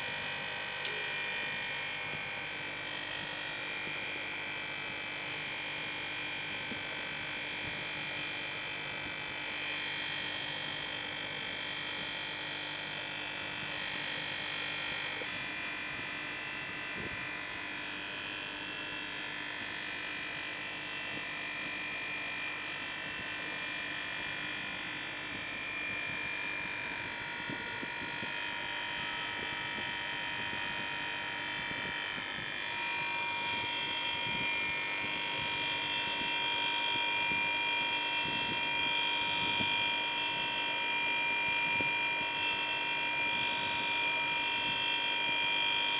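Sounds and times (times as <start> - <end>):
refrigeration compressor humming: 0.0 - 19.5, 22.3 - 45.9
high-pitched whine: 0.0 - 45.9.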